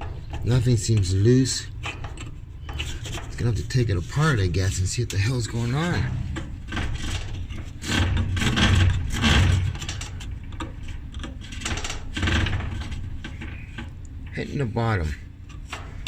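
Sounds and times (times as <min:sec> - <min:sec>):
dryer fan turning and rattling: 0:00.0 - 0:16.0
fan scraping: 0:00.0 - 0:16.0.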